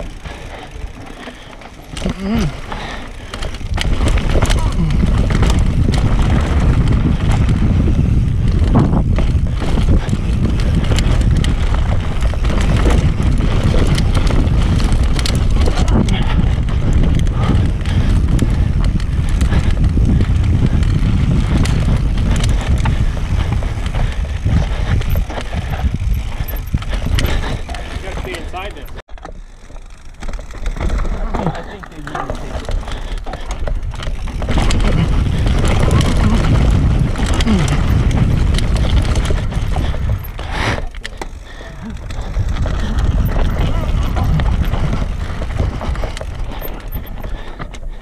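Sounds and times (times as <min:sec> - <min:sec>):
wind buffeting microphone: 0:00.0 - 0:29.0, 0:30.8 - 0:48.0
bike rattling and knocking: 0:00.0 - 0:48.0
tyres rolling on dirt: 0:00.0 - 0:48.0.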